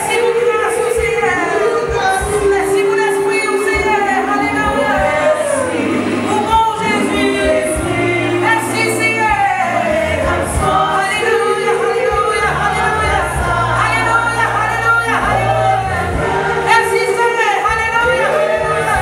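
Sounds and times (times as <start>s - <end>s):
choir singing gospel song: 0.0s - 19.0s
low accompaniment: 0.2s - 19.0s.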